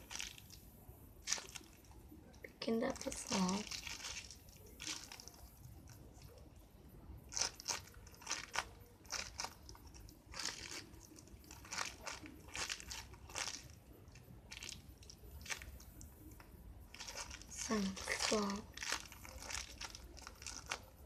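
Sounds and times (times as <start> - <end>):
squishy toy crinkly rustles: 0.0 - 6.5, 7.3 - 21.0.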